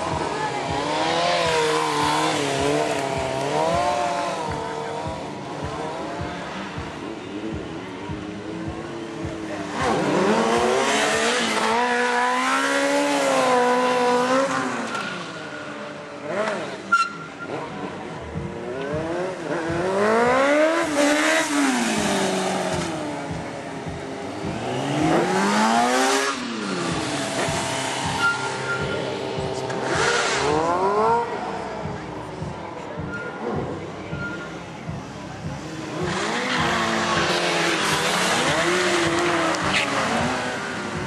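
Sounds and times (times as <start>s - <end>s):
motorcycle engines revving: 0.0s - 41.0s.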